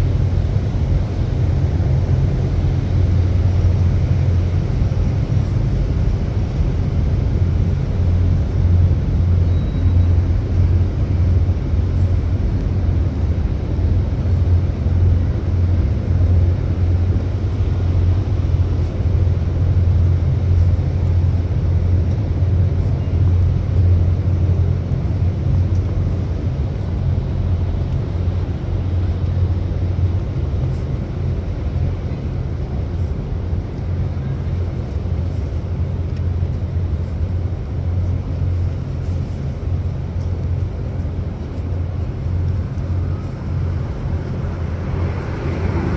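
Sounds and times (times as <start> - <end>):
city street traffic: 0.0 - 45.9.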